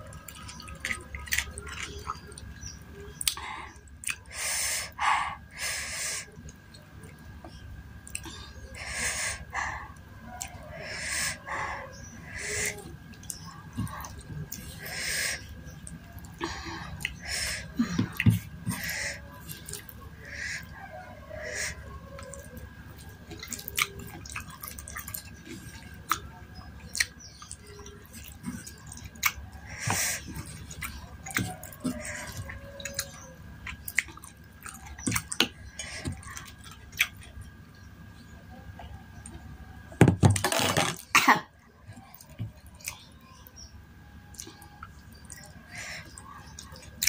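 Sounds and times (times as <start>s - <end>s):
wet chewing and mouth sounds: 0.0s - 38.2s, 41.8s - 47.0s.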